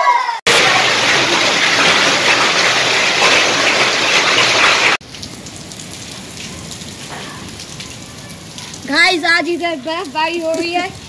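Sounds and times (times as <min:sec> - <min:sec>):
hail and rain pelting down: 0:00.5 - 0:11.0.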